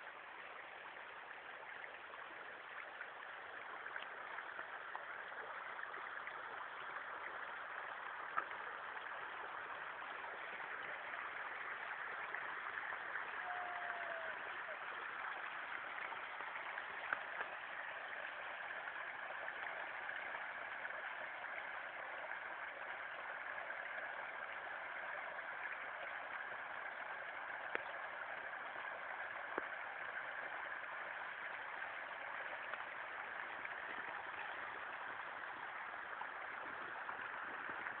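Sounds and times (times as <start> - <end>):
flowing water rushing: 0.0 - 38.0.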